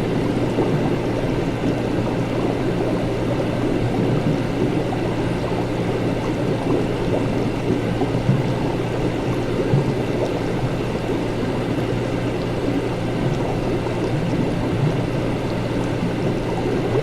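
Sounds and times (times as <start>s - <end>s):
liquid bubbling: 0.0s - 17.0s
steady low hum: 0.0s - 17.0s.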